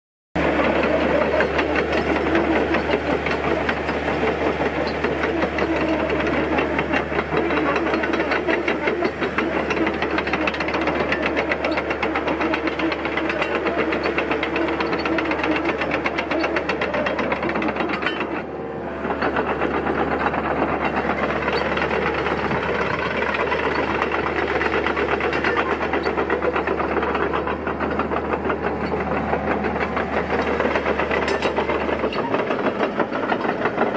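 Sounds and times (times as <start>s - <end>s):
excavator diesel engine knocking: 0.4s - 33.9s.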